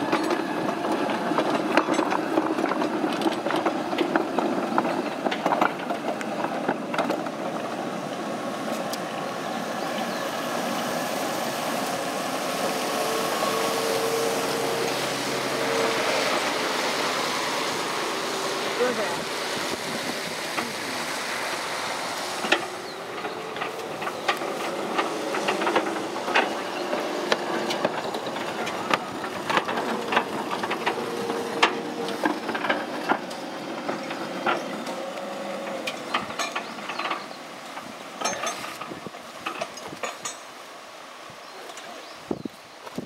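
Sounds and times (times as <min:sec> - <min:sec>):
wheels clanking on rails: 0:00.0 - 0:43.0.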